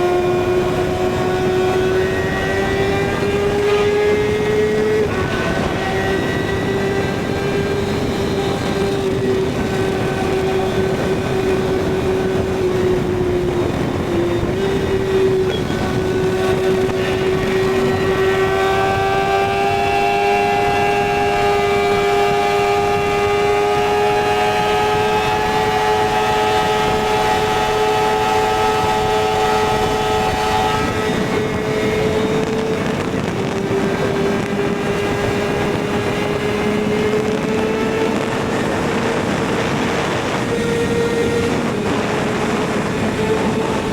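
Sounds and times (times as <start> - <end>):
motorcycle engine at high revs: 0.0 - 43.9
wind rushing past: 0.0 - 43.9.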